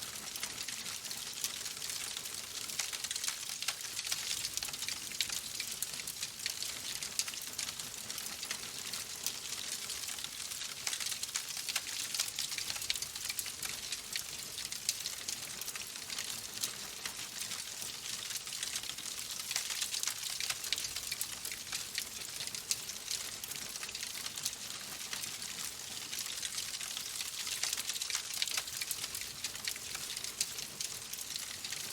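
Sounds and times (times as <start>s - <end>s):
wood fire crackling and popping: 0.2s - 5.8s, 6.4s - 16.4s, 18.1s - 31.9s.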